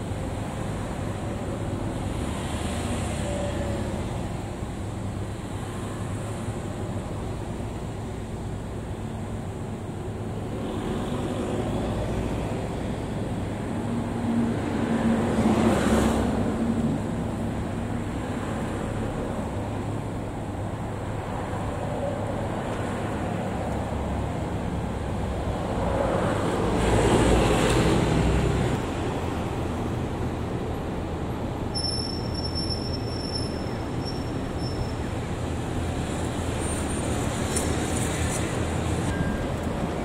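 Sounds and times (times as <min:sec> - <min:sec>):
rumble of passing cars: 0:00.0 - 0:40.0.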